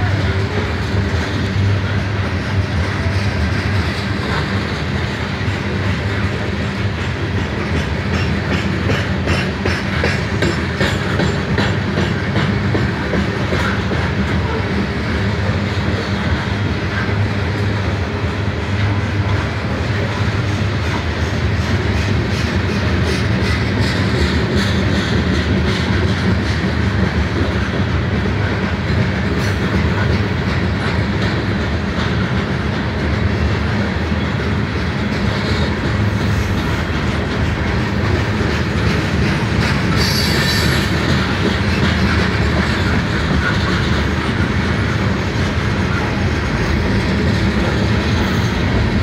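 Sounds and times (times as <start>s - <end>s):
steel wheels on rails: 0.0s - 49.0s.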